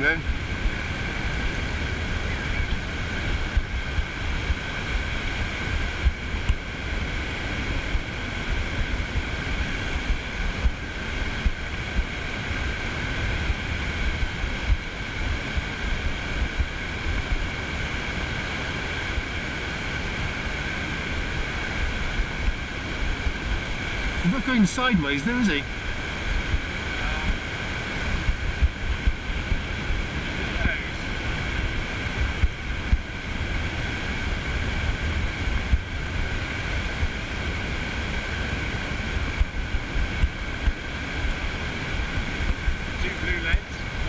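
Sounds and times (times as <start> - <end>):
small waves washing over sand: 0.0 - 44.0
wind buffeting microphone: 0.0 - 44.0.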